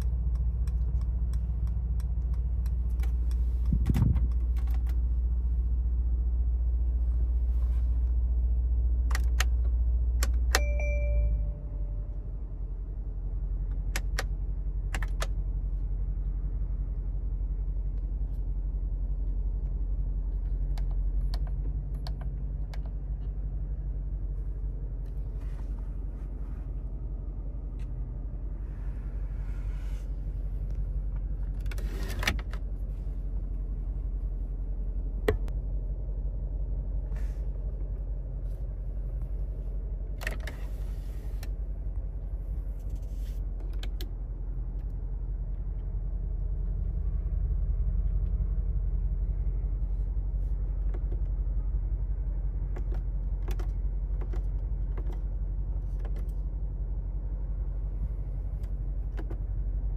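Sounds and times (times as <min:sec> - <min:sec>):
car engine idling: 0:00.0 - 0:31.8, 0:32.4 - 0:59.9.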